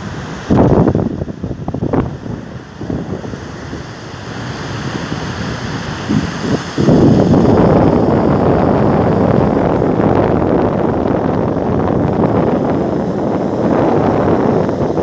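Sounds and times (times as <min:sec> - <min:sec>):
floodwater rushing: 0:00.0 - 0:15.0
wind buffeting microphone: 0:00.0 - 0:15.0.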